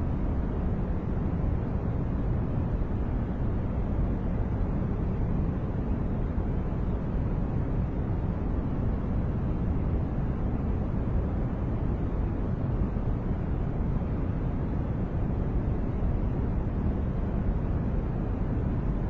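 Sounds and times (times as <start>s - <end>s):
steady white noise: 0.0s - 19.0s.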